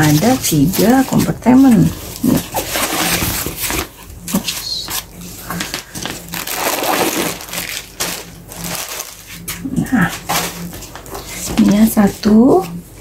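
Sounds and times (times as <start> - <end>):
tissue paper and plastic crinkling: 0.0 - 12.2.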